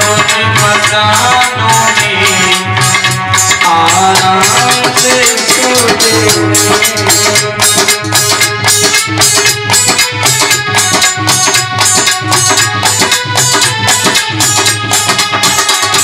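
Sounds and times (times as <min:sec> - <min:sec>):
reed-keyboard melody: 0:00.0 - 0:16.0
steady drum beat: 0:00.0 - 0:16.0.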